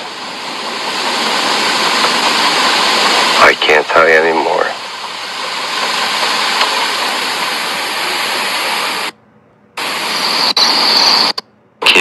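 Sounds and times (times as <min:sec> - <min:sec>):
loud steady hiss: 0:00.0 - 0:09.2, 0:09.8 - 0:12.0
thin high whine: 0:00.0 - 0:09.2, 0:09.8 - 0:12.0.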